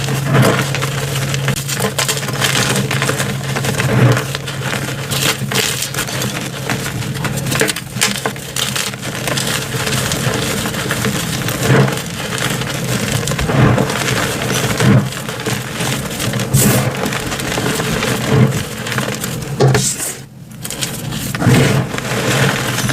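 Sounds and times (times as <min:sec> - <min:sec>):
chalk crunching and crackling: 0:00.0 - 0:22.9.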